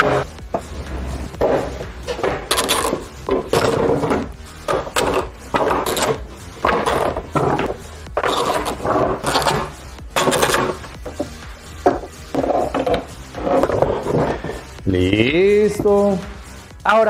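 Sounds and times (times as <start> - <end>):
plastic rubbing and knocking: 0.0 - 14.7.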